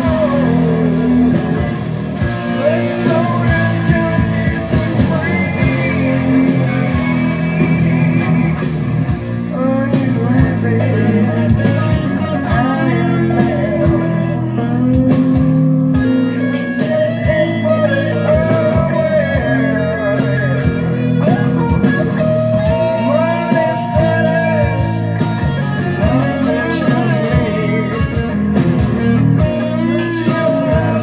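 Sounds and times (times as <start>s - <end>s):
backing track drums and bass: 0.0s - 31.0s
distorted electric guitar: 0.0s - 31.0s.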